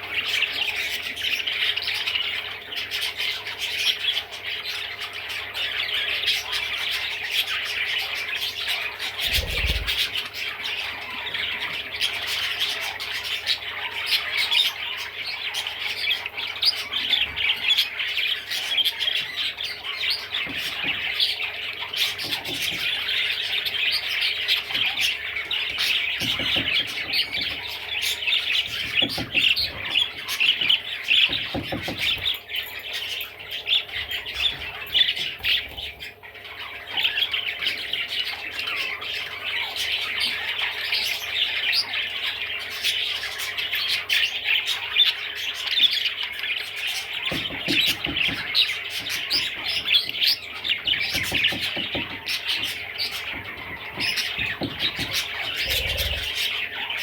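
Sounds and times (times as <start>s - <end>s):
budgerigar chattering and warbling: 0.1s - 57.0s.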